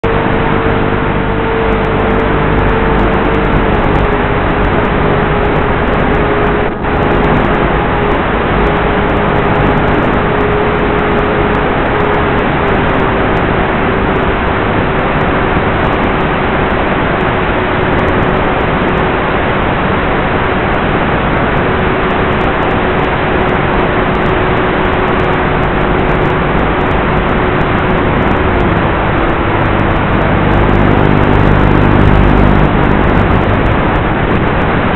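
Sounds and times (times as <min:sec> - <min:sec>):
air rushing: 0:00.0 - 0:34.9
electric motor and propeller whine: 0:00.0 - 0:34.9.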